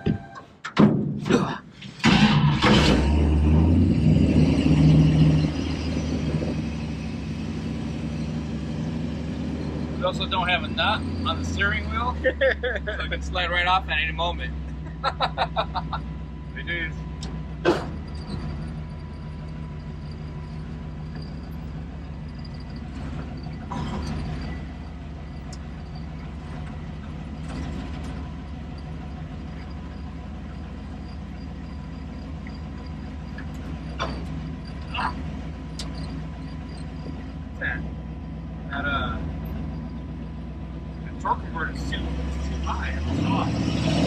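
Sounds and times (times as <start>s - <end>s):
car engine running: 1.8s - 44.0s.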